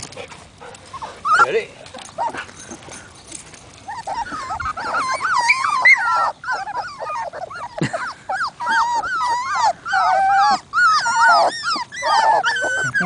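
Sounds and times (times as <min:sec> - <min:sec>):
puppies whining: 0:00.7 - 0:13.0.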